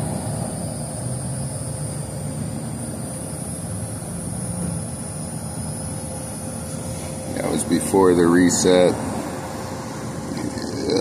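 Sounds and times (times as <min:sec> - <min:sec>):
faint steady whine: 0:00.0 - 0:11.0
hvac equipment drone: 0:00.0 - 0:11.0.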